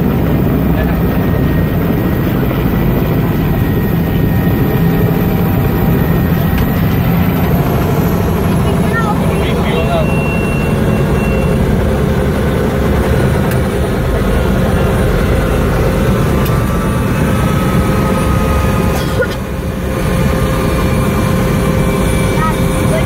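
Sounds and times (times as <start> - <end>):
helicopter engine and rotor rumble: 0.0 - 23.0.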